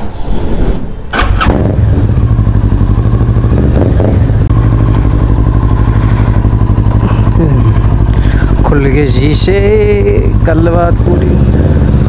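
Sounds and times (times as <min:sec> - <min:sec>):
motorcycle engine starting and idling: 0:01.0 - 0:12.0.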